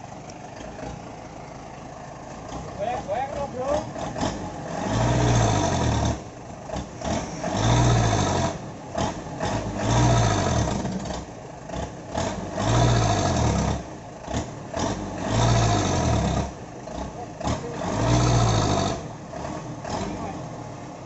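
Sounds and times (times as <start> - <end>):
diesel truck engine revving: 0.0 - 21.0.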